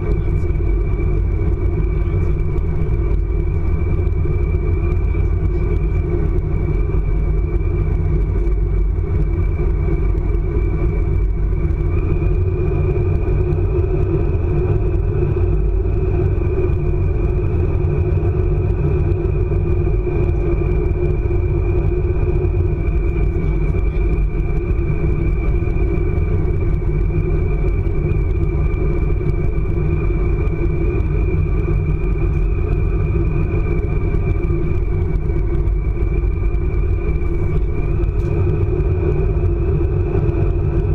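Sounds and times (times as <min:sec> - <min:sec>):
train rumble on board: 0:00.0 - 0:40.9.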